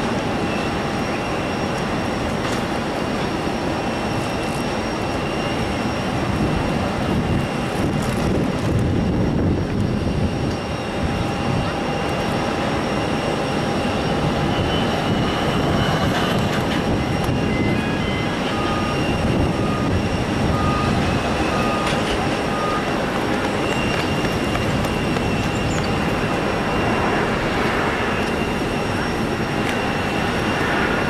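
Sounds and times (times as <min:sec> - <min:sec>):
high engine whine: 0:00.0 - 0:31.0
jet engines roaring: 0:00.0 - 0:31.0.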